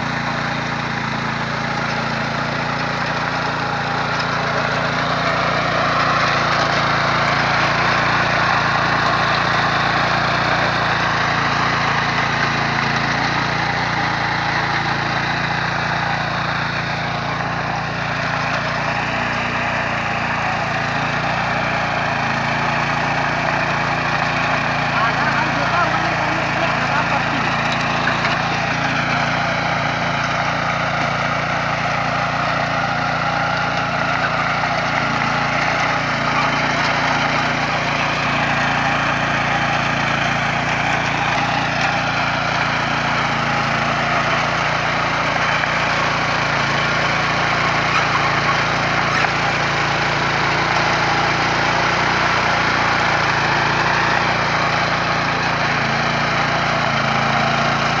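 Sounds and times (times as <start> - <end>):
small petrol tiller engine: 0.0 - 58.0
tines digging into soil: 0.0 - 58.0.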